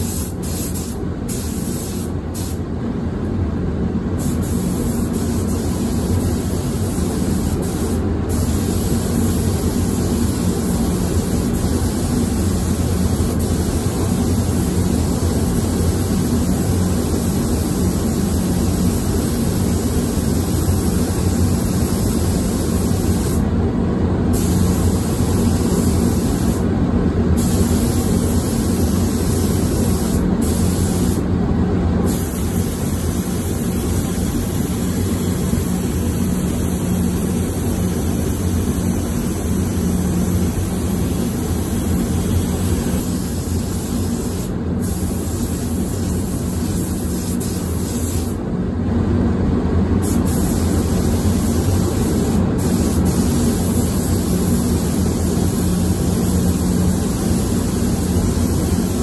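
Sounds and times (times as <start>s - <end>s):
spray gun hissing: 0.0s - 2.6s, 4.2s - 23.5s, 24.3s - 26.7s, 27.4s - 31.2s, 32.0s - 48.4s, 50.0s - 59.0s
ventilation hum and air rush: 0.0s - 59.0s.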